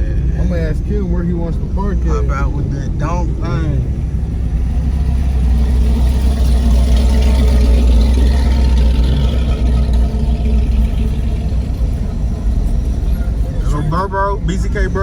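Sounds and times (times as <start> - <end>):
car engine rumbling at low revs: 0.0 - 15.0.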